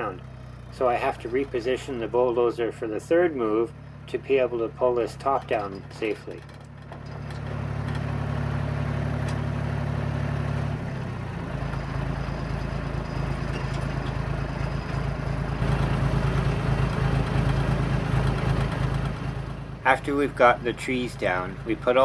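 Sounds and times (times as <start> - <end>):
dozer diesel engine running: 0.0 - 22.0.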